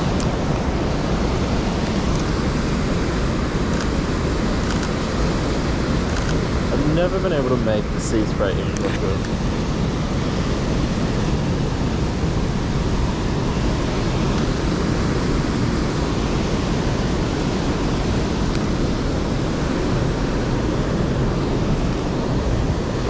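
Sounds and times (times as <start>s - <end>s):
waves breaking on rocky shore: 0.0s - 23.0s.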